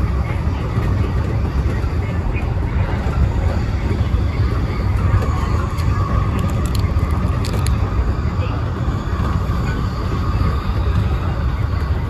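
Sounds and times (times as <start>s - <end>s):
faint train whine: 0.0s - 12.0s
train wheels rumbling on rail: 0.0s - 12.0s.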